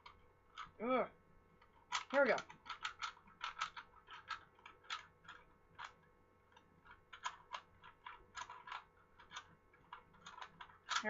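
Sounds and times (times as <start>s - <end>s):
plastic cube layers clicking: 1.6s - 11.0s.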